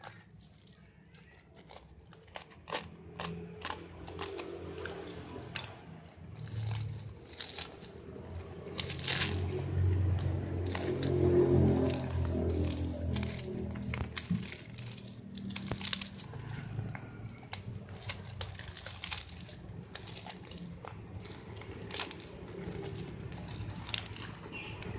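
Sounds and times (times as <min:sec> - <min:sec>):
packaging tearing: 0:00.0 - 0:05.4, 0:06.3 - 0:24.9
plastic packaging crinkling: 0:00.0 - 0:24.9
sharp clicks and rustles: 0:00.0 - 0:24.9.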